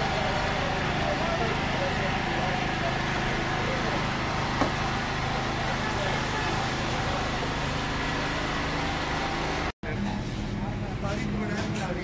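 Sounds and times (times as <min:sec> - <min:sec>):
steady mechanical drone: 0:00.0 - 0:12.0.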